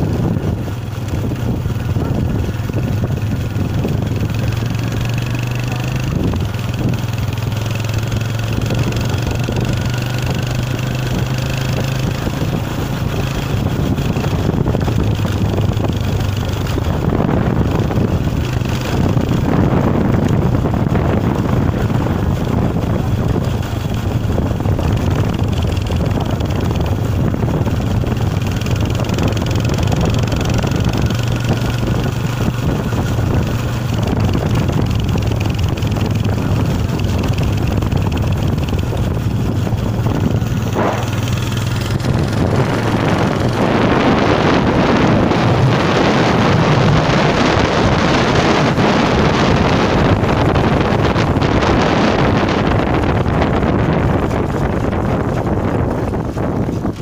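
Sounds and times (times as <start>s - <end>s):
wind buffeting a phone microphone: 0.0s - 57.0s.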